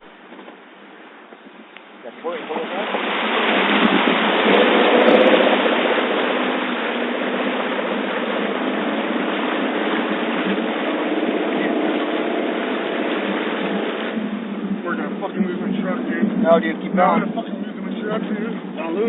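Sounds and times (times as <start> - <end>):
water splashing against truck: 0.0 - 19.0.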